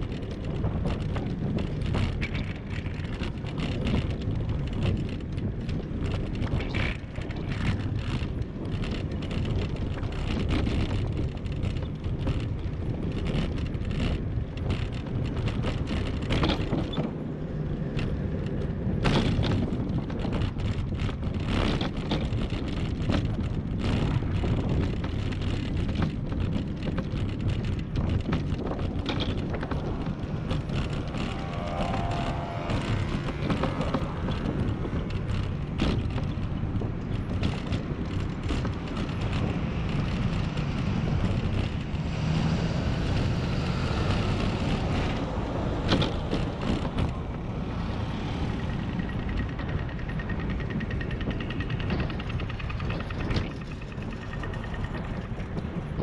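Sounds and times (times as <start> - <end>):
bicycle knocks and rattles: 0.0 - 56.0
bicycle tyres rolling on pavement: 0.0 - 56.0
wind rumble: 0.0 - 56.0.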